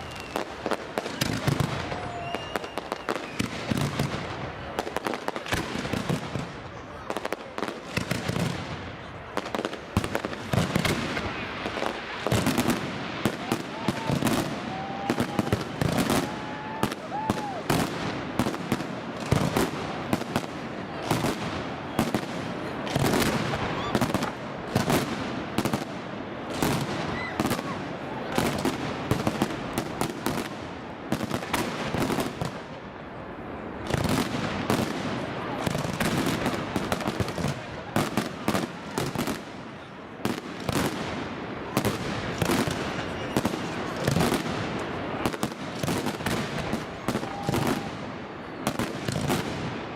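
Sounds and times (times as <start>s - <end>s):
fireworks bursts and crackling: 0.0s - 49.9s.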